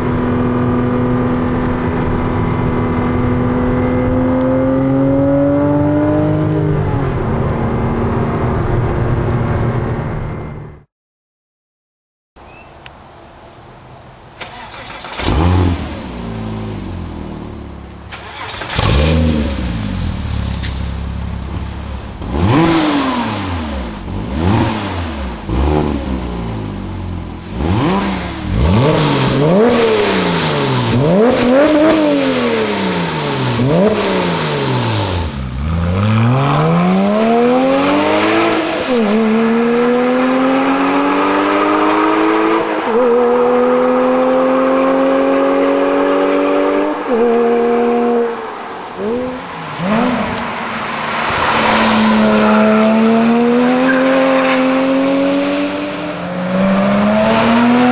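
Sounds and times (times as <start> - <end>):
car engine revving: 0.0 - 9.2, 14.4 - 57.9.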